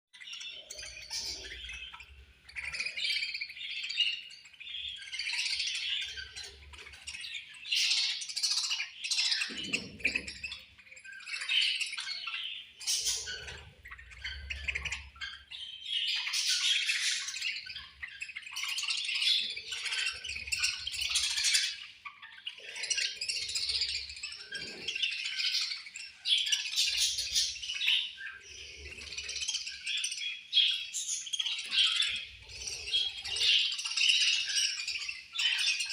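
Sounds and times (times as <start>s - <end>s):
budgerigars chirping and warbling: 0.2s - 35.9s.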